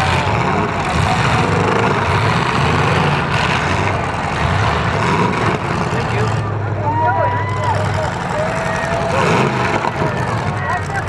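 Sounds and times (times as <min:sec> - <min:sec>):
car engines running loud: 0:00.0 - 0:11.0.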